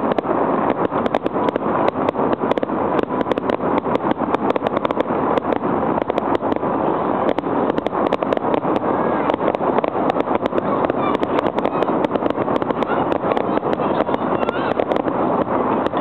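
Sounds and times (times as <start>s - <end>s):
fireworks popping and crackling: 0.0s - 16.0s
steady rushing noise: 0.0s - 16.0s.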